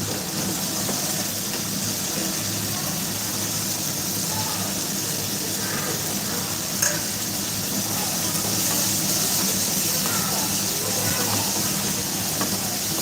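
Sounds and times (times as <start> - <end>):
gravy sizzling in a pan: 0.0 - 13.0.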